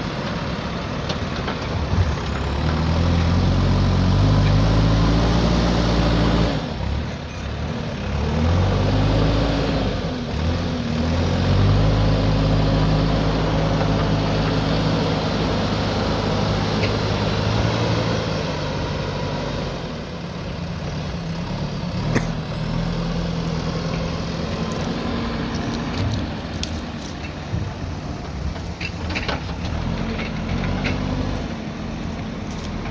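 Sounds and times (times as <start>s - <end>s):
diesel engine under load: 0.0s - 32.9s.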